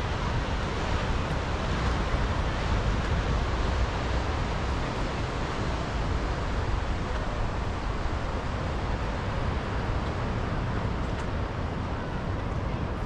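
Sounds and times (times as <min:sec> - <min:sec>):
waves breaking on a beach: 0:00.0 - 0:13.0
wind rumble on microphone: 0:00.0 - 0:13.0.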